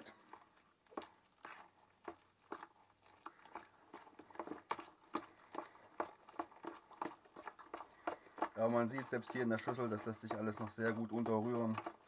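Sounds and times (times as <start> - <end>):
utensil stirring wet filling: 0.0 - 12.0.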